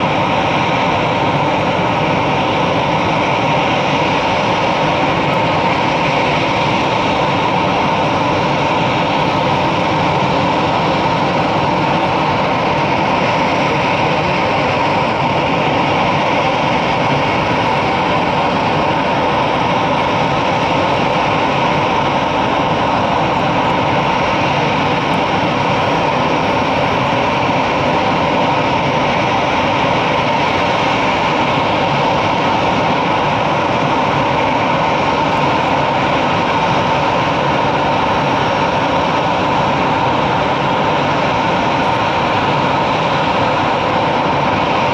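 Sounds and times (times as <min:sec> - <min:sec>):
jet engines running: 0:00.0 - 0:44.9.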